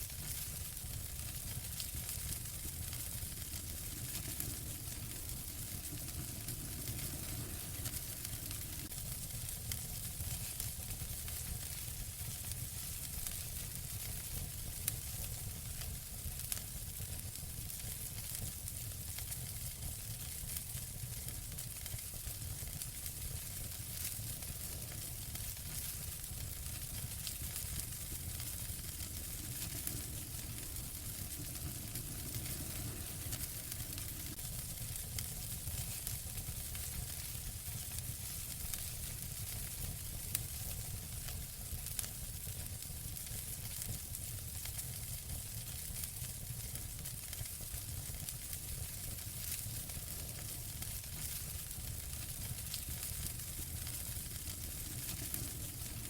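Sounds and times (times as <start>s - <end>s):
fireplace fire hissing: 0.0s - 56.0s
wood fire crackling and popping: 0.0s - 56.0s.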